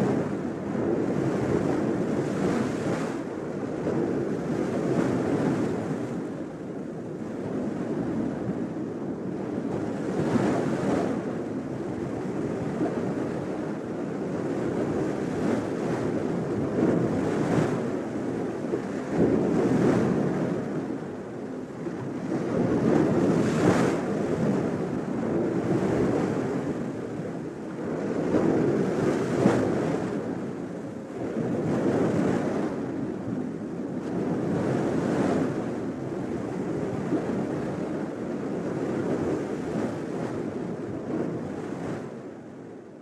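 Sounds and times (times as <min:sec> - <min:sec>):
ocean waves washing in: 0:00.0 - 0:43.0.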